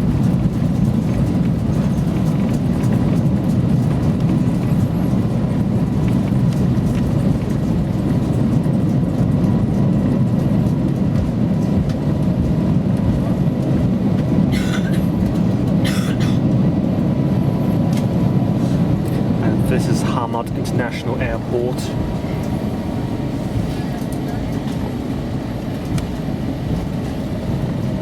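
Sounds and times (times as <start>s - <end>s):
aircraft cabin deep rumble: 0.0s - 28.0s.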